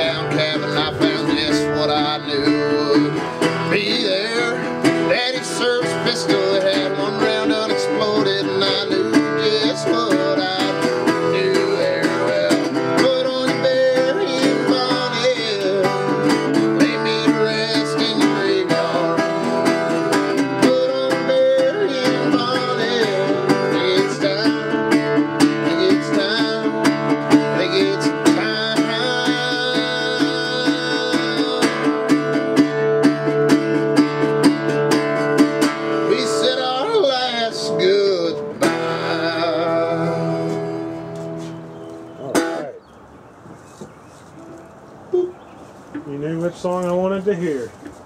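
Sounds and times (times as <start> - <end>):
fingerpicked resonator guitar: 0.0 - 42.8, 44.2 - 45.5.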